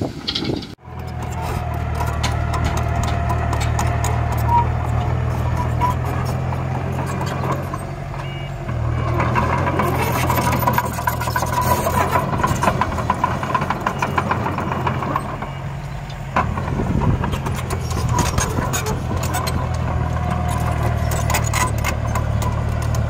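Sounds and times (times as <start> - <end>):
clattering clicks and scrapes: 0.2 - 15.4, 16.4 - 23.0.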